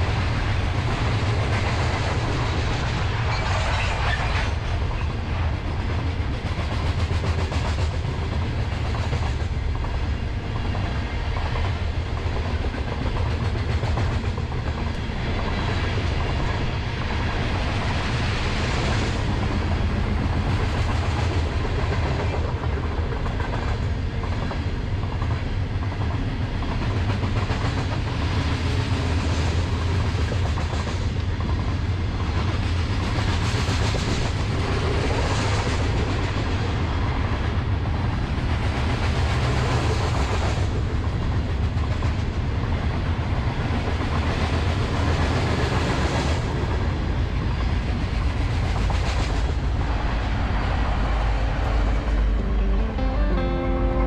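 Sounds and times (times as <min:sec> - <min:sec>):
clickety-clack over rail joints: 0:00.0 - 0:51.8
train wheels rumbling on rail: 0:00.0 - 0:52.3.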